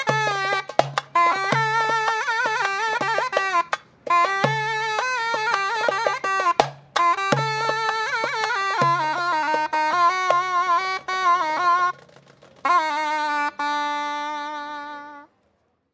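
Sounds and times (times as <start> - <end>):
zurna melody: 0.0 - 15.5.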